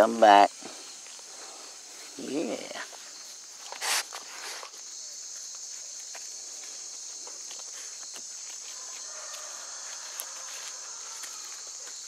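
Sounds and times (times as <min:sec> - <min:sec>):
high-pitched insect chorus: 0:00.0 - 0:12.0
footsteps on dry leaves: 0:00.6 - 0:12.0.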